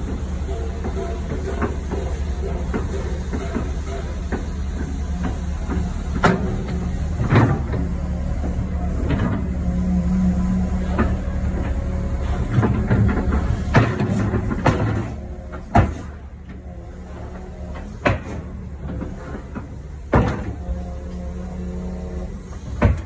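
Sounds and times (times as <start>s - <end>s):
excavator diesel engine idling: 0.0s - 23.0s.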